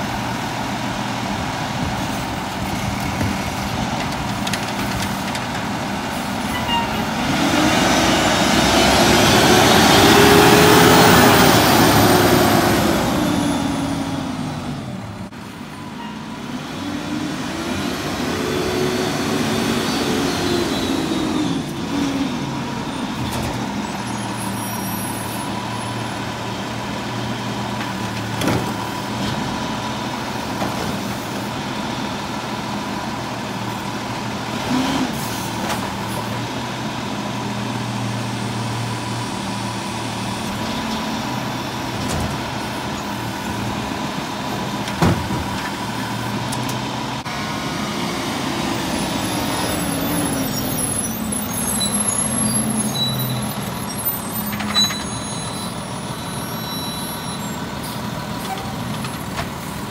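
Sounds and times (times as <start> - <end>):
diesel truck engine idling and revving: 0.0 - 59.9.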